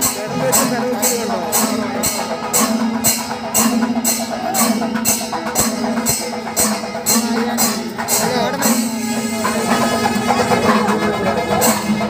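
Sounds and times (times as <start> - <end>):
drumming: 0.0 - 12.0
hand cymbals clashing: 0.0 - 12.0.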